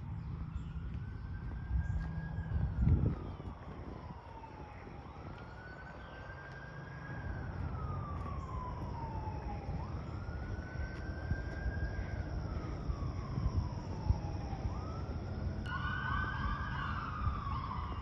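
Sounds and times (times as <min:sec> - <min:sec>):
emergency vehicle siren wailing: 0:00.0 - 0:18.0.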